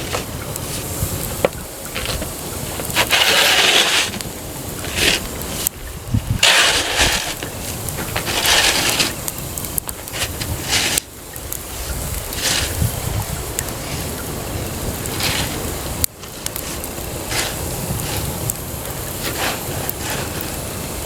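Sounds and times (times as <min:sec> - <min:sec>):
campfire crackling and popping: 0:00.0 - 0:21.0
rushing wind: 0:00.0 - 0:21.0.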